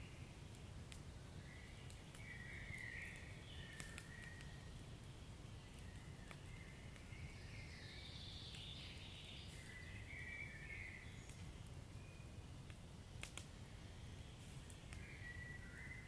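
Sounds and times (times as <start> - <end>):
fire crackling: 0.0 - 16.0
fire hissing softly: 0.0 - 16.0.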